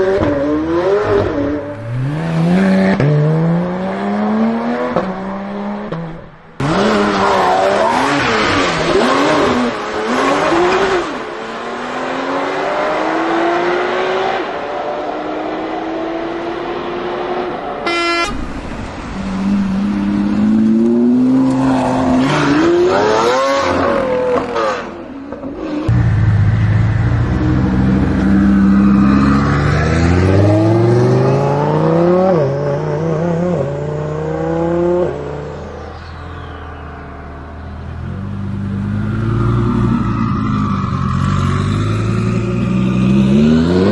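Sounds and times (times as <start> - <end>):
car engines revving and accelerating: 0.0 - 17.9, 18.5 - 43.9.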